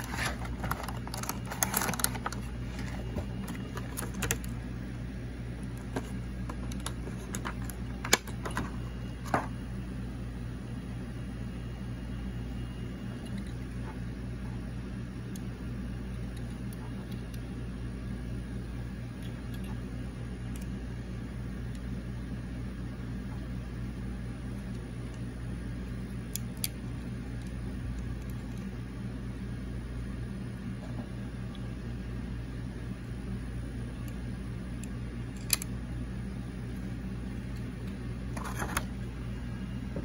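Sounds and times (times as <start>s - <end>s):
low room hum with hiss: 0.0s - 40.0s.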